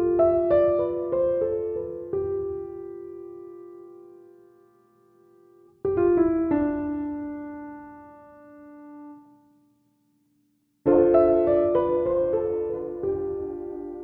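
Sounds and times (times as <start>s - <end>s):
piano music: 0.0s - 9.4s, 10.9s - 14.0s.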